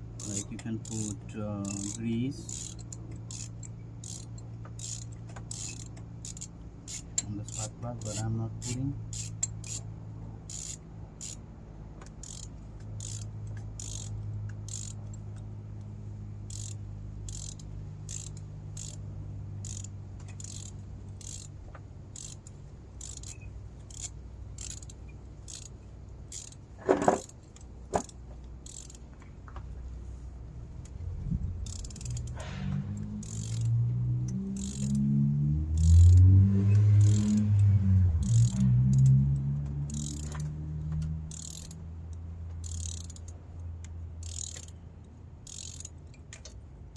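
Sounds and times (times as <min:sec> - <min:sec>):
steady low hum: 0:00.0 - 0:46.9
socket ratchet clicking: 0:00.2 - 0:11.4, 0:12.1 - 0:15.5, 0:16.4 - 0:19.0, 0:19.6 - 0:29.1, 0:31.6 - 0:46.9.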